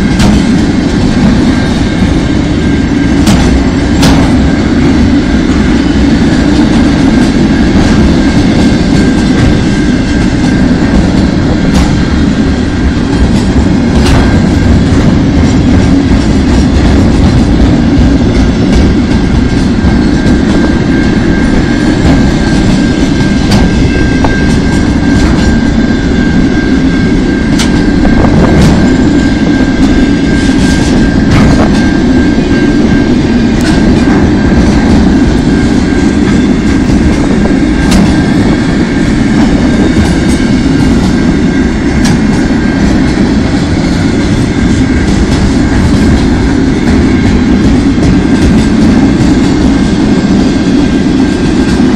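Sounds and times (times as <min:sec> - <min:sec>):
train wagons rumbling past: 0:00.0 - 0:51.9.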